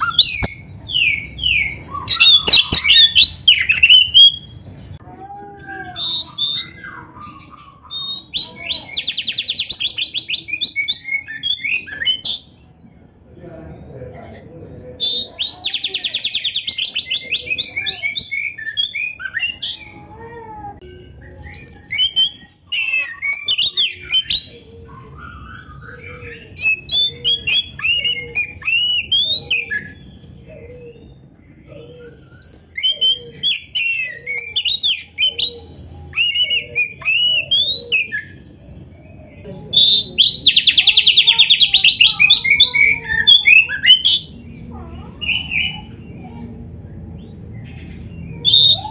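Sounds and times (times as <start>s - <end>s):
rapid rattling bird trill: 0.0s - 4.6s, 5.3s - 13.3s, 20.9s - 48.9s
bird singing varied song: 0.0s - 48.9s.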